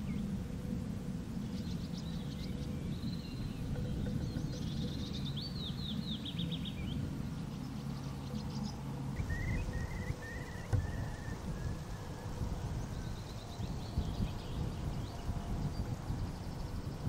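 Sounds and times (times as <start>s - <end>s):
low background rumble: 0.0s - 17.0s
songbirds trilling and chirping: 0.0s - 17.0s.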